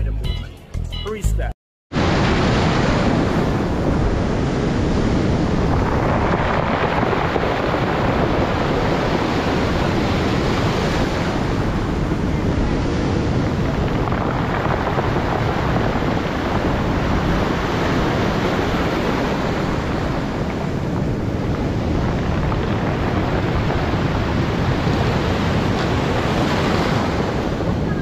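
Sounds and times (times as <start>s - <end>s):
ocean surf breaking on shore: 1.9s - 28.0s
wind buffeting microphone: 2.0s - 28.0s.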